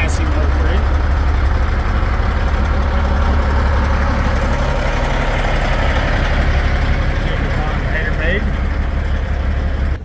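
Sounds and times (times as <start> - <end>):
engine running low rumble: 0.0 - 10.0.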